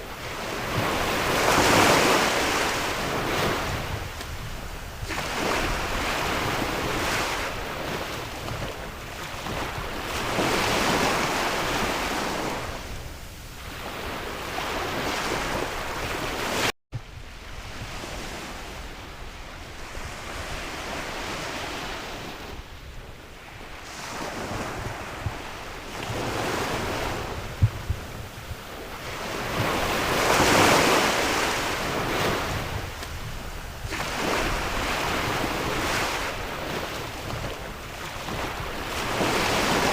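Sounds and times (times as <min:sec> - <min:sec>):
sea waves breaking: 0:00.0 - 0:16.7, 0:17.4 - 0:39.9
wind blowing across microphone: 0:00.0 - 0:39.9.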